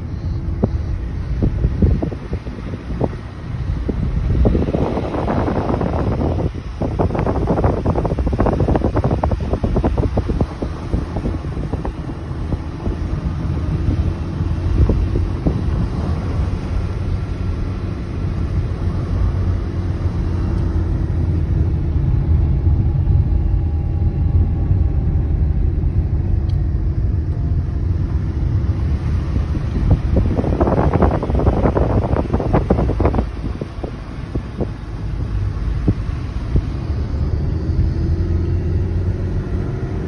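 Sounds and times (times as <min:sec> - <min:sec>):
car engine and tyres rumbling: 0:00.0 - 0:40.0
wind buffeting microphone: 0:00.0 - 0:40.0.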